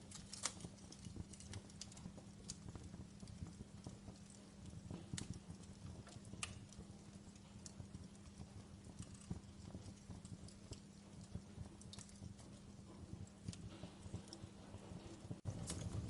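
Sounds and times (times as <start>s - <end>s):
logs crackling and popping: 0.0s - 16.0s
low rumble of flames: 0.0s - 16.0s.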